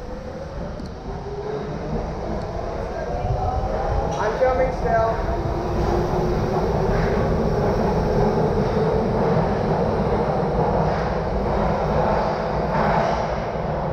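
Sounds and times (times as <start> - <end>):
subway train running: 0.0 - 13.9.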